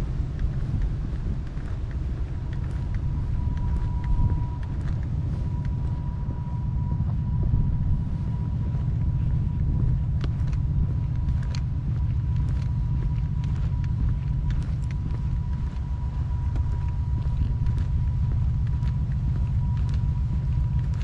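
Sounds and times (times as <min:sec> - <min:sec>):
low rumble: 0:00.0 - 0:21.0
thin steady whine: 0:00.0 - 0:21.0
faint ticks: 0:00.3 - 0:06.4, 0:09.9 - 0:21.0.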